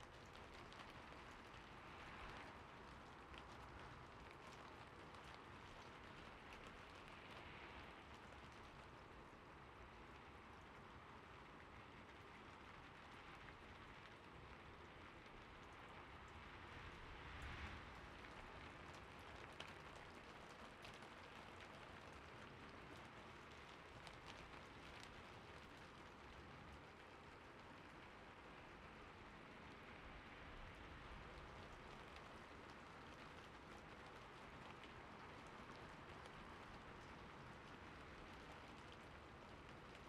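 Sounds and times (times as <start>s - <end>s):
gentle rain patter: 0.0s - 40.0s.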